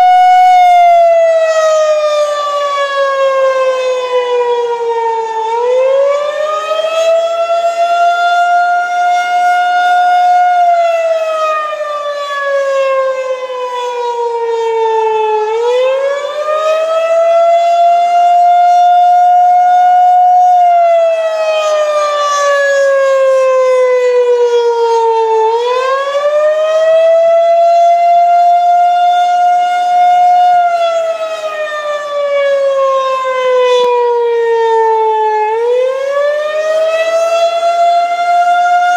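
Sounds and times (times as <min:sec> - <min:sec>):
tornado warning siren wailing: 0:00.0 - 0:38.9.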